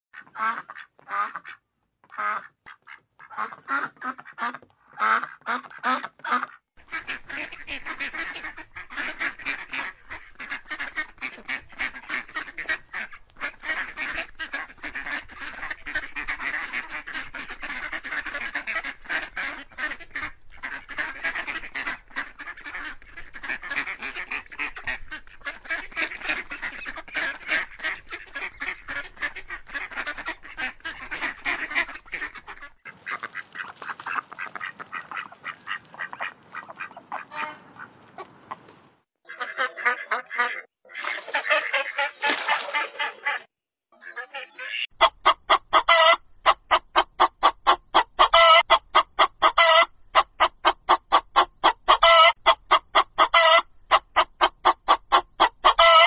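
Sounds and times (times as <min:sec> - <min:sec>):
ducks quacking: 0:00.1 - 0:38.7, 0:39.3 - 0:56.0.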